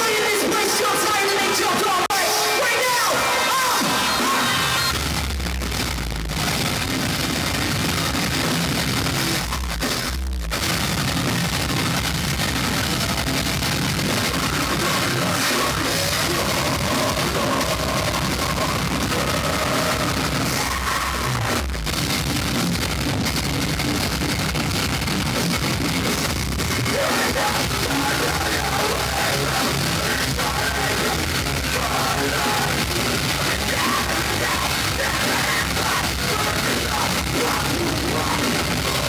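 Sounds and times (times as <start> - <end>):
heavy rock band playing loudly: 2.3 - 39.0.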